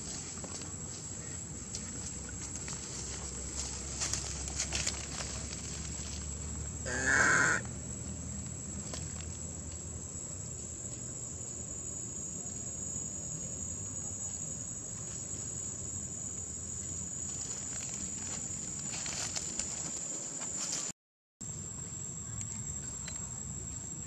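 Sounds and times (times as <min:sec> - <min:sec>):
high-pitched insect drone: 0:00.9 - 0:24.0.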